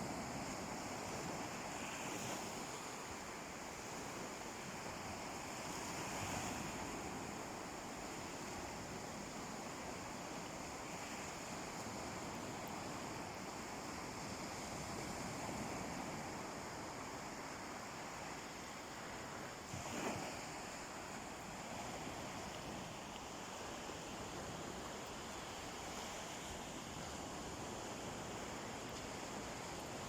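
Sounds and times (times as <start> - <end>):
sea waves washing onto beach: 0.0 - 30.0.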